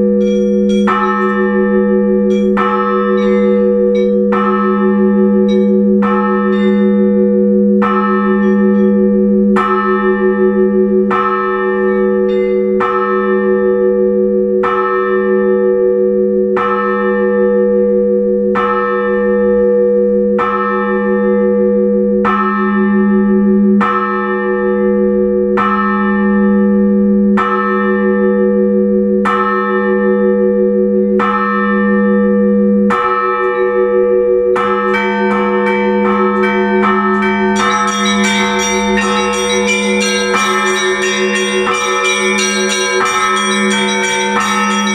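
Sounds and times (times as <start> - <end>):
church bell ringing: 0.0 - 44.9.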